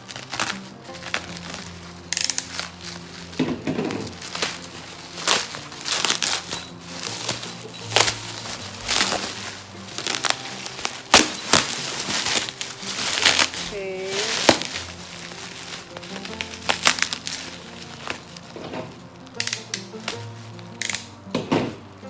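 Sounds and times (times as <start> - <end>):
background music: 0.0 - 22.0
bubble wrap crinkling: 0.0 - 22.0
sharp crackle: 0.0 - 22.0.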